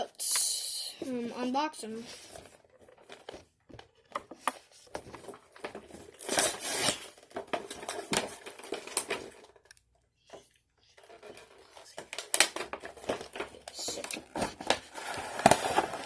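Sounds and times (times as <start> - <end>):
cardboard and plastic crinkling: 1.8 - 9.7, 11.0 - 16.0.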